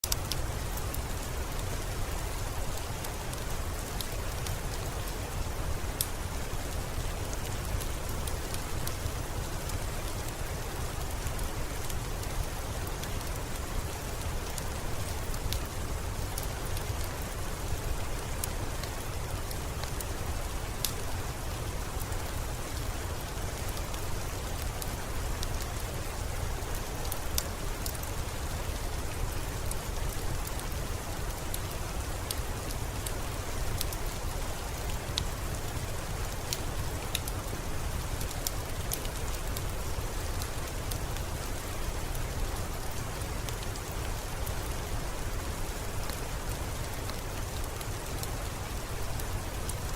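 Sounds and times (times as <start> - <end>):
heavy rain: 0.0 - 49.9
wood fire crackling and popping: 0.0 - 49.9.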